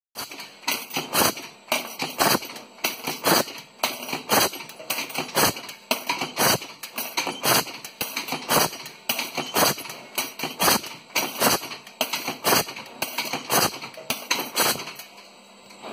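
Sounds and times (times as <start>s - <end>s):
press metallic clack: 0.2s - 15.3s.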